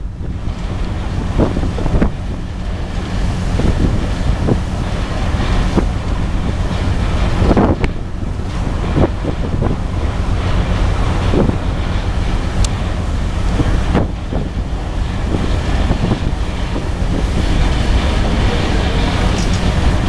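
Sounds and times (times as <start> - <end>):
ship engine rumble: 0.0 - 20.0
wind buffeting microphone: 0.0 - 20.0.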